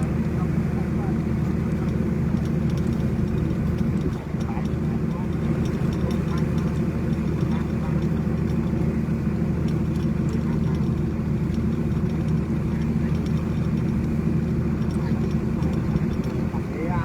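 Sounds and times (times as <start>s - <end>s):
heavy engine humming: 0.0s - 17.0s.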